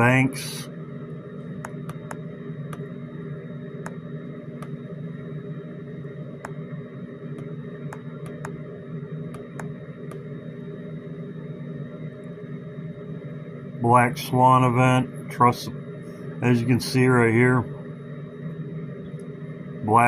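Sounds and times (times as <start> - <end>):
faint high whine: 0.0 - 20.0
room hum: 0.0 - 20.0.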